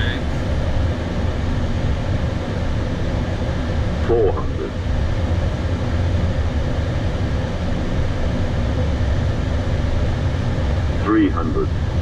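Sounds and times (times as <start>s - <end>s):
cockpit low rumble: 0.0s - 12.0s.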